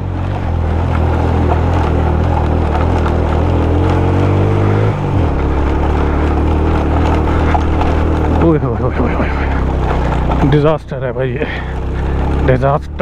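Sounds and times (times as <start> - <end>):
motorcycle engine under load: 0.0 - 13.0.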